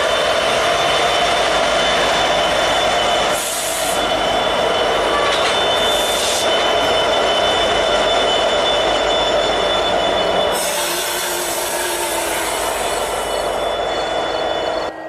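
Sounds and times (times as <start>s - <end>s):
diesel locomotive engine: 0.0s - 15.0s
wheel flange squeal: 0.4s - 15.0s.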